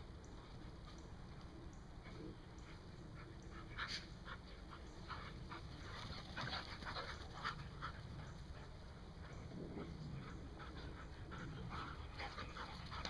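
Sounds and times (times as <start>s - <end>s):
dogs panting: 0.4s - 13.0s.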